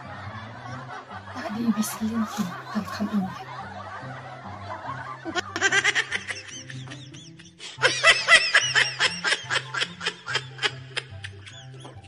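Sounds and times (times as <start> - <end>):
bursts of laughter: 0.0 - 12.0.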